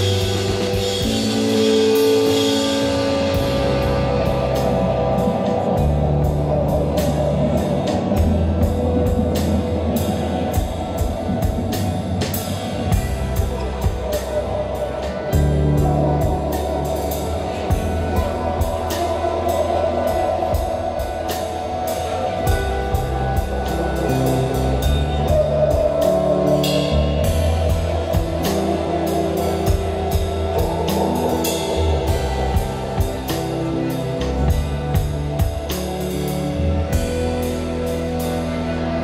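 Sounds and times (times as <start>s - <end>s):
bass guitar notes: 0.0s - 39.0s
drum and cymbal hits: 0.0s - 39.0s
electric guitar: 0.0s - 39.0s.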